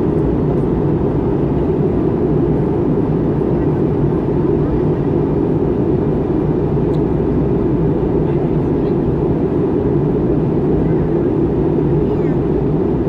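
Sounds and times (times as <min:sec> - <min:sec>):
jet engine drone: 0:00.0 - 0:13.0.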